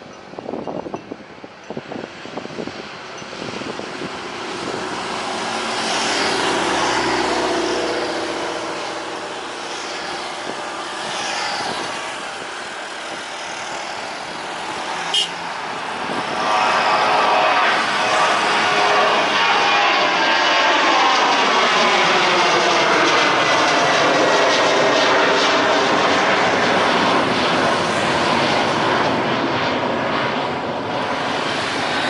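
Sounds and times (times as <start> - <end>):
jet airliner engines passing: 0.0 - 32.0.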